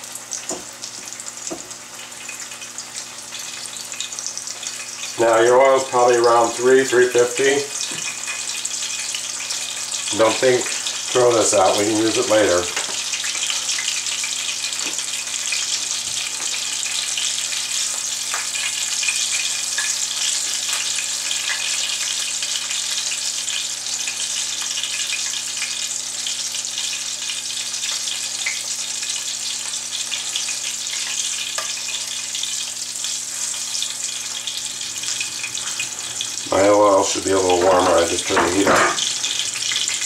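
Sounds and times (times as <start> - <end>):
food frying in oil: 0.0 - 40.0.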